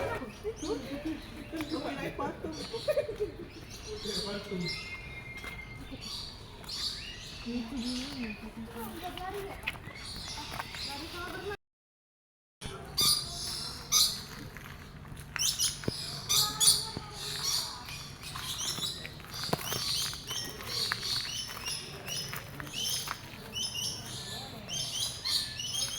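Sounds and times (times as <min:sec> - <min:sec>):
small birds chirping: 0:00.0 - 0:11.6, 0:12.6 - 0:25.9.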